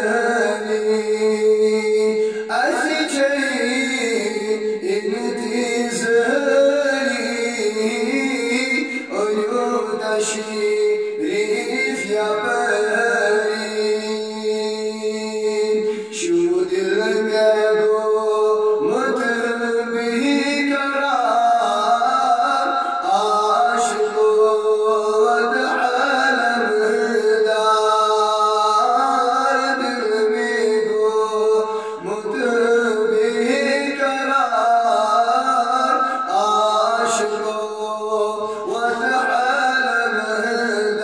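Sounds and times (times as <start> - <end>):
man singing into a microphone: 0.0 - 41.0.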